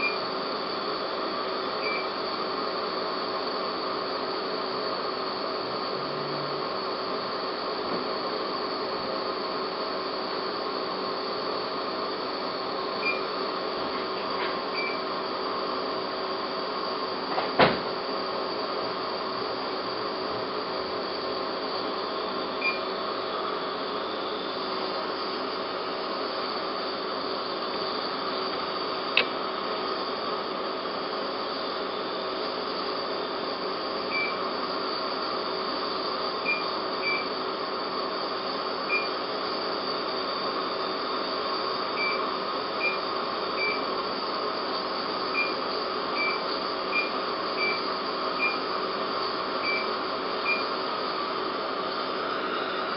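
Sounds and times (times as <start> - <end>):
dental equipment hum: 0.0 - 52.9.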